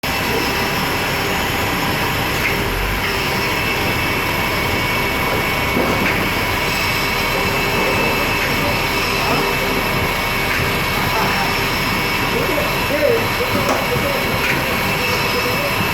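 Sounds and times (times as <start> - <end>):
jet turbine high whine: 0.0 - 15.9.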